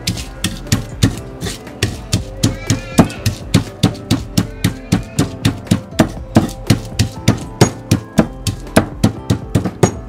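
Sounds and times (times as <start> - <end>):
background music: 0.0 - 10.0
pestle pounding in stone mortar: 0.0 - 10.0.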